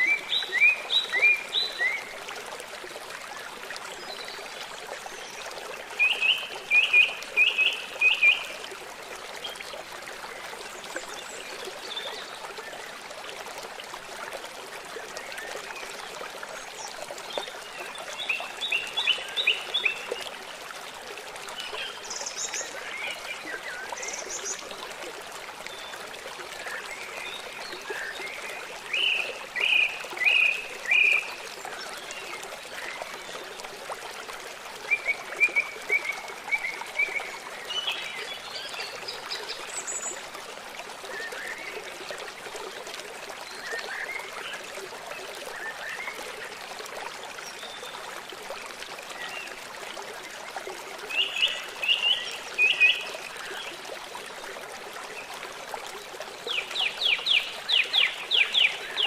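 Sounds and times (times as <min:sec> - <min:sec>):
trickling stream: 0:00.0 - 0:59.0.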